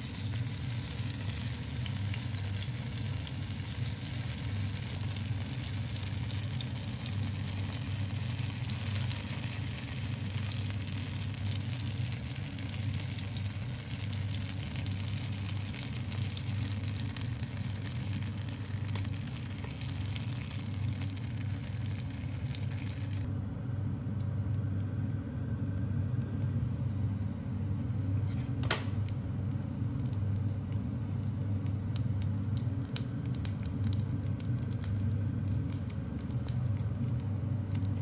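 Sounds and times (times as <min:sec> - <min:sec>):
batter frying in oil sizzling: 0:00.0 - 0:23.3, 0:25.6 - 0:38.0.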